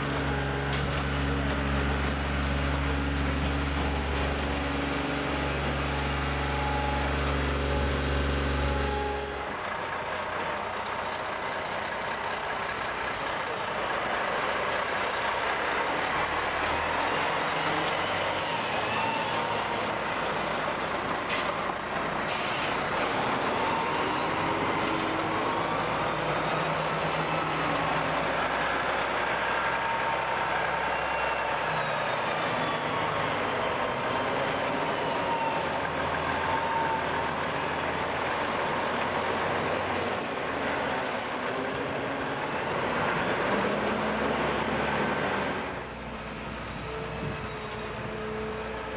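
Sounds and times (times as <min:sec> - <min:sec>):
heavy diesel engines running: 0:00.0 - 0:48.9.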